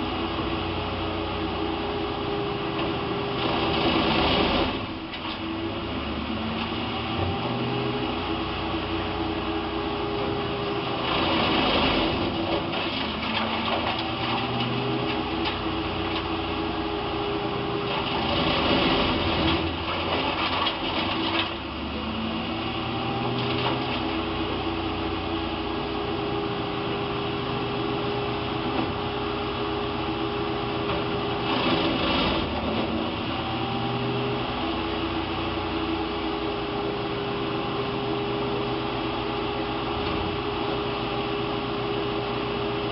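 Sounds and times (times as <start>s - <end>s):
wood chipper running: 0.0s - 42.9s.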